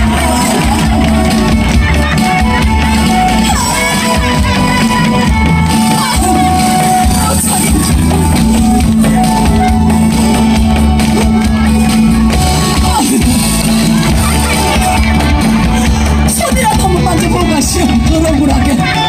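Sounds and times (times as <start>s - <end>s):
drum beat: 0.0s - 19.0s
held bass line: 0.0s - 19.0s
loud music over sound system: 0.0s - 19.0s.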